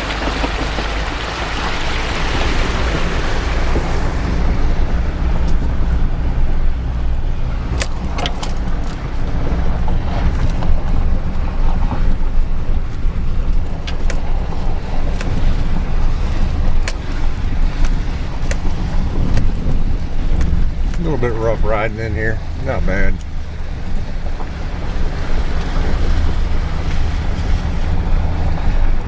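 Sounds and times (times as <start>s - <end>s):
vehicle engine rumble: 0.0s - 29.0s
wind noise on microphone: 0.0s - 29.0s.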